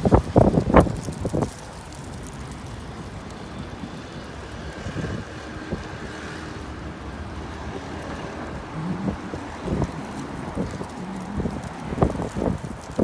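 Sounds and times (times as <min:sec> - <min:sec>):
traffic rumble: 0:00.0 - 0:13.0
wind buffeting microphone: 0:00.0 - 0:13.0.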